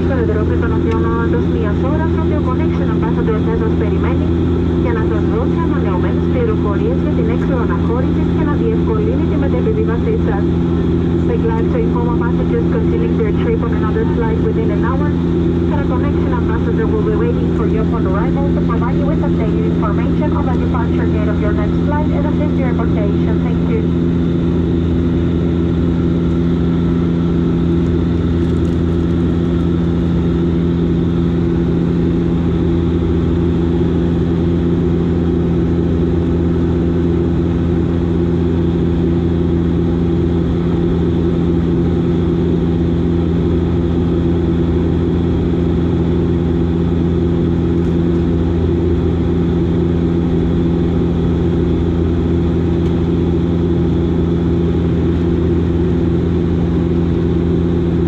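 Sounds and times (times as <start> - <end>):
turboprop engines droning: 0.0 - 58.0.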